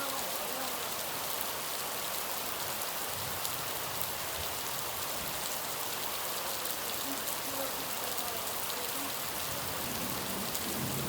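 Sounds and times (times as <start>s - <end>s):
hiss of rain: 0.0s - 11.0s.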